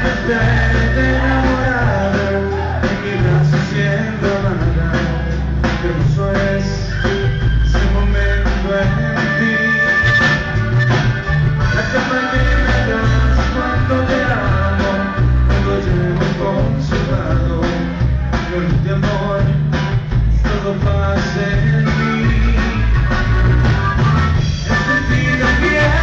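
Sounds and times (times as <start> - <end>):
acoustic guitar: 0.0 - 26.0
drums: 0.0 - 26.0
electric bass: 0.0 - 26.0.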